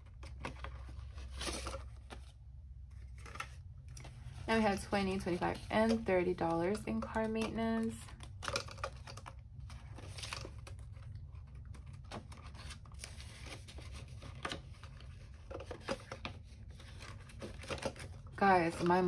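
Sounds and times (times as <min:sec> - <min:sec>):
banknotes rustling: 0:00.0 - 0:19.0.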